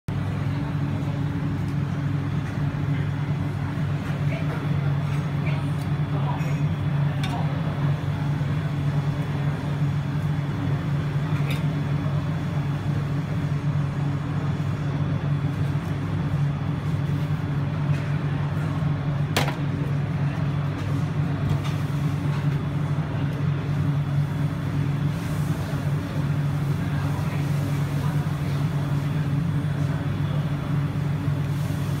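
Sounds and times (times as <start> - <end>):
low mechanical hum: 0.1 - 32.0.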